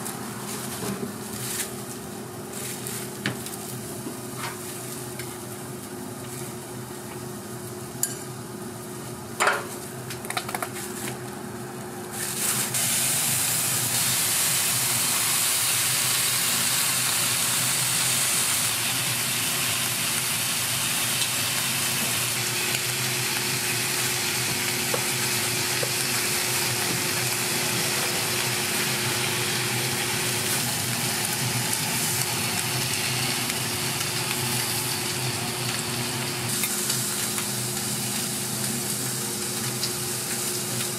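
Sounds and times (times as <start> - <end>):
food sizzling on griddle: 0.0 - 8.4, 12.1 - 40.9.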